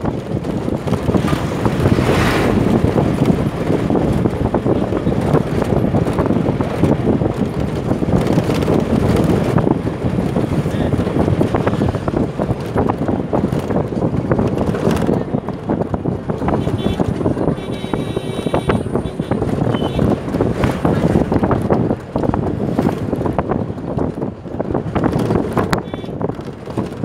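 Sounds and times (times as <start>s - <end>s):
vehicle running noise: 0.0s - 27.0s
wind buffeting microphone: 0.0s - 27.0s.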